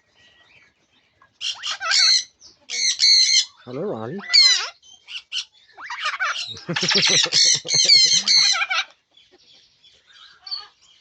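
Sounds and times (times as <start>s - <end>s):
parrots squawking and chattering: 1.2s - 11.0s.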